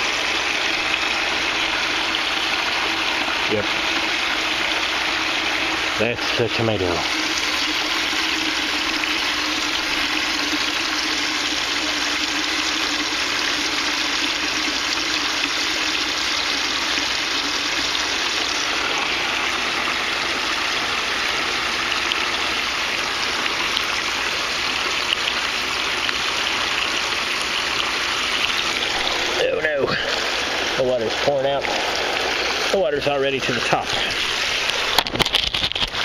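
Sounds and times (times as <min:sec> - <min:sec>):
water running and splashing: 0:00.0 - 0:36.0.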